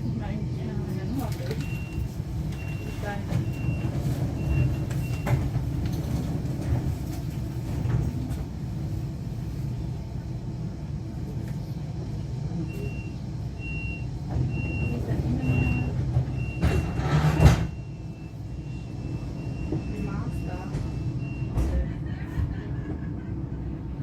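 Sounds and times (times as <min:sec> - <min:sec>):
train hum: 0:00.0 - 0:24.0.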